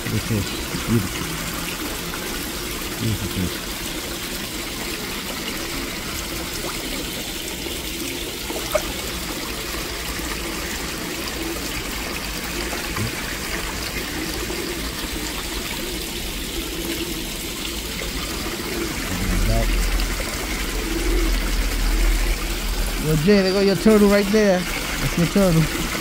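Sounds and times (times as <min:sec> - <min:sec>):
pond water trickling and splashing: 0:00.0 - 0:26.0.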